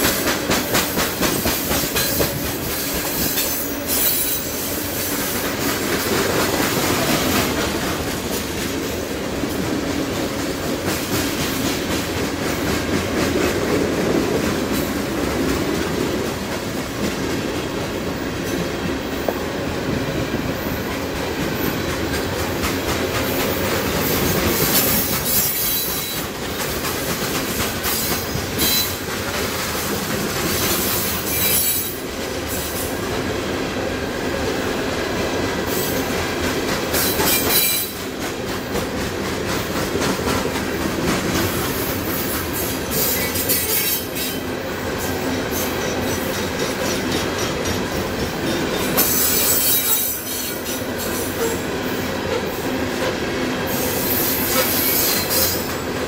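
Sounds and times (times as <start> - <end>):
clickety-clack over rail joints: 0.0 - 56.0
steel wheels rumbling on rails: 0.0 - 56.0.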